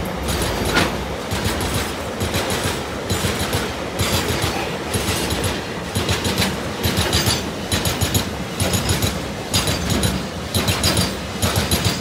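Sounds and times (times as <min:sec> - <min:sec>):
freight train rumbling past: 0:00.0 - 0:12.0
wheels clattering over rail joints: 0:00.0 - 0:12.0.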